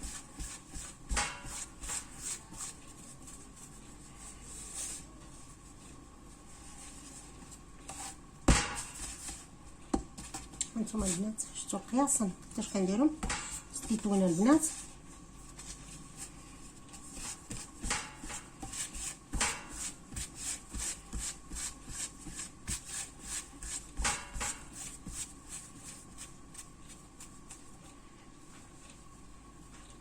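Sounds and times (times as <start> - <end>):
hands patting bread dough: 0.0 - 4.0, 6.9 - 11.4, 12.3 - 27.8.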